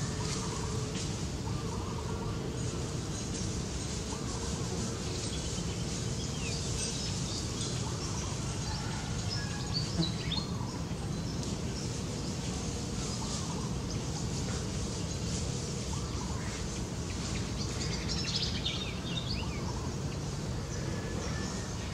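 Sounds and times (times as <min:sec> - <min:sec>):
outdoor background noise: 0:00.0 - 0:21.9.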